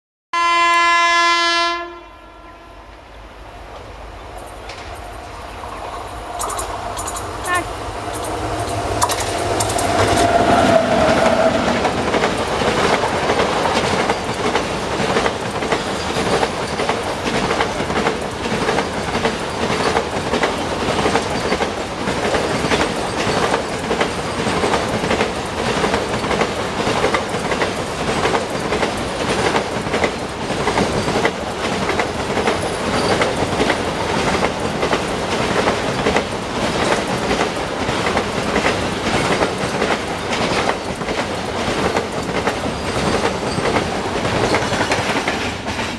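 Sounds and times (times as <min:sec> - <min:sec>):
train wheels clattering on rails: 0:03.7 - 0:45.9.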